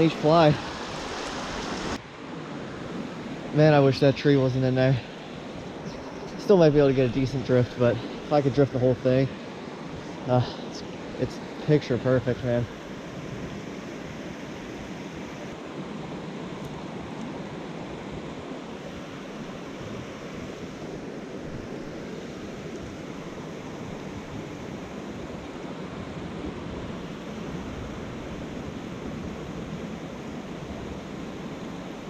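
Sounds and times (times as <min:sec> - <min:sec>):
mountain stream running: 0:00.0 - 0:32.0.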